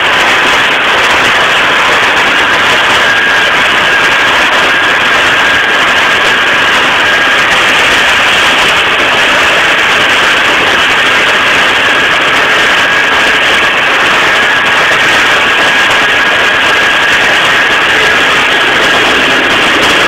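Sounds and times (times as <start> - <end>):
thin high whine: 0.0 - 20.0
tractor and baler running: 0.0 - 20.0.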